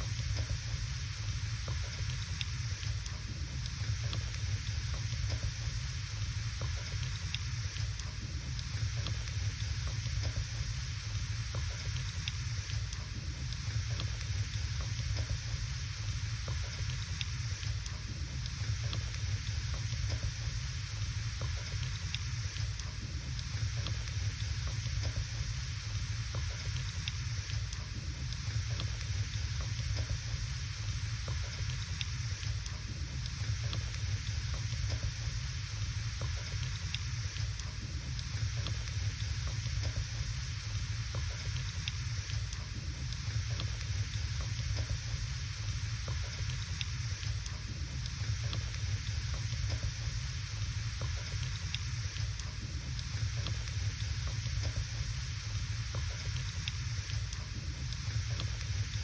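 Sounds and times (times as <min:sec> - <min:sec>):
fire hissing: 0:00.0 - 0:59.0.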